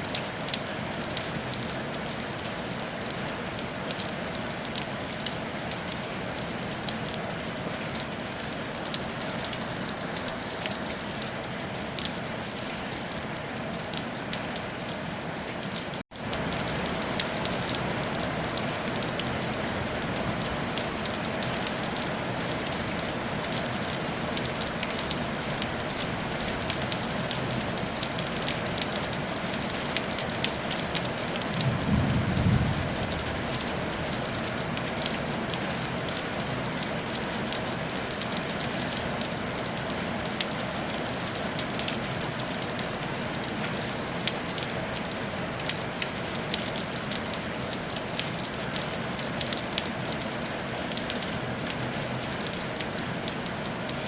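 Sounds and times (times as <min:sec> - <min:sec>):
rain on a tiled roof: 0:00.0 - 0:54.0.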